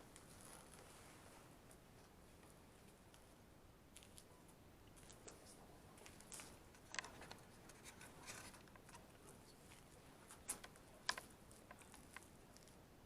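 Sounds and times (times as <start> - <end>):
soft rustles: 0.0 - 12.8.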